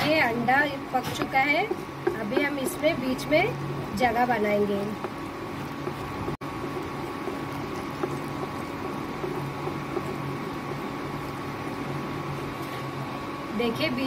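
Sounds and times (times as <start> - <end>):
eggs sizzling on a hot pan: 0.0 - 13.5
faint steady hum: 0.0 - 14.0.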